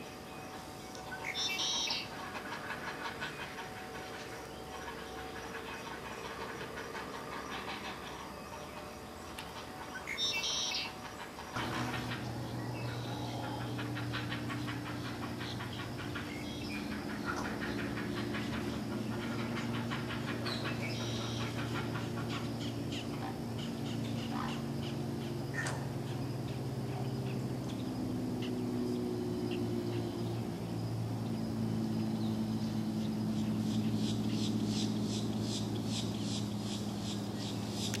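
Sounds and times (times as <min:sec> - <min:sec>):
birds chirping: 0:00.0 - 0:38.0
steady low hum: 0:00.0 - 0:38.0
high clicking bird calls: 0:00.5 - 0:30.5, 0:32.1 - 0:38.0.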